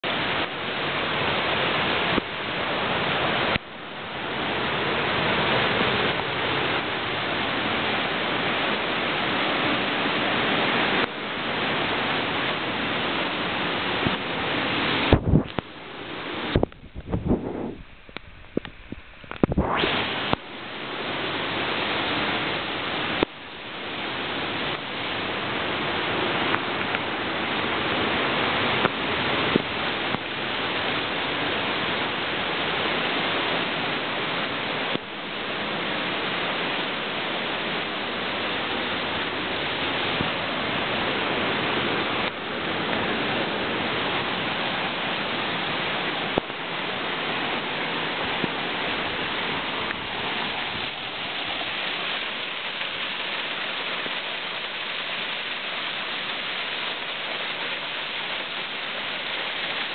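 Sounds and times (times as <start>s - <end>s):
waterfall and river rushing: 0.0s - 59.9s.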